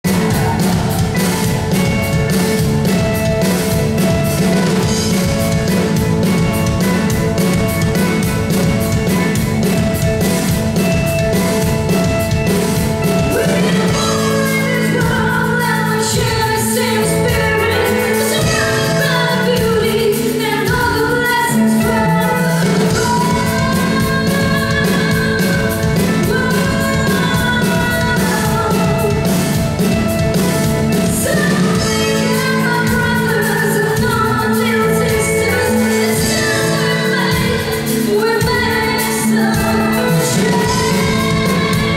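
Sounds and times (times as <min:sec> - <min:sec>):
rock band playing: 0:00.0 - 0:41.9
woman singing lead: 0:00.0 - 0:41.9.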